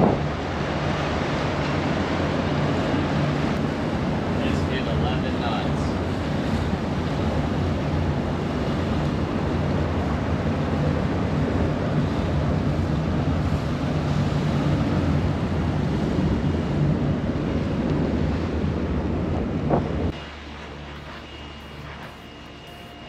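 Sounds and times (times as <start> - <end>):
turbulent water rushing: 0.0 - 22.0
boat low drone: 0.0 - 23.0
wind buffeting microphone: 0.0 - 23.0.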